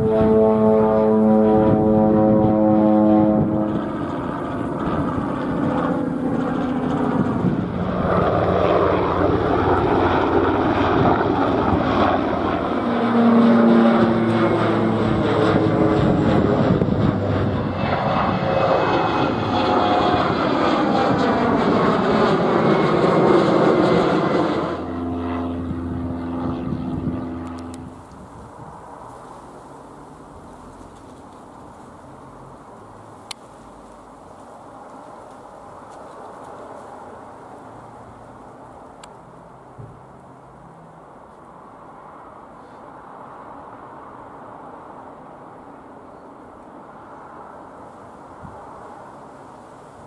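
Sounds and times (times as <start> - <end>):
propeller aircraft passing overhead: 0.0 - 50.0.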